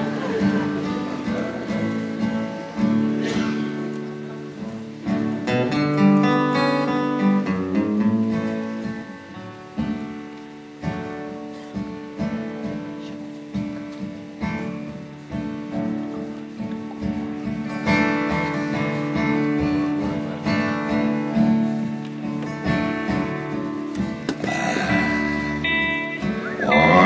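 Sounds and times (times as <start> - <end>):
acoustic guitar: 0.0 - 27.0
electric guitar: 0.0 - 27.0.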